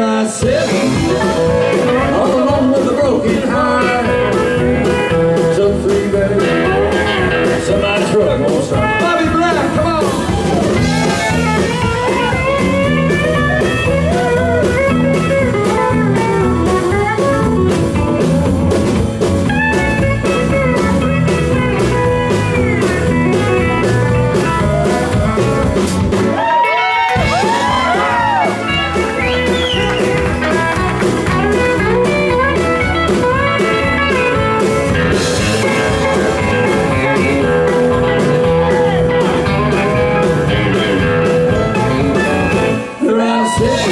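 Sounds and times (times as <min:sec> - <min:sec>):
country-rock band playing: 0:00.0 - 0:43.9
lead guitar: 0:00.0 - 0:43.9
drums at a steady beat: 0:00.4 - 0:43.9.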